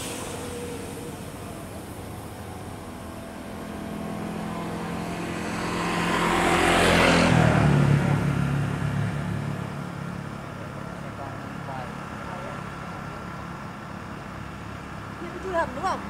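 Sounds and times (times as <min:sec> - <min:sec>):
vehicle passing close by: 0:00.0 - 0:16.0.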